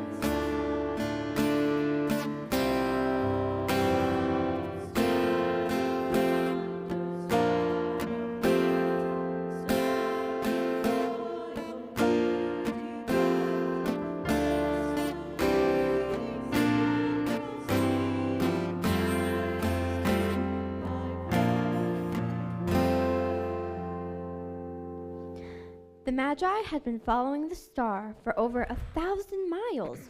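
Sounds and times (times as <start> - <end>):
acoustic guitar strummed chords: 0.0 - 26.0.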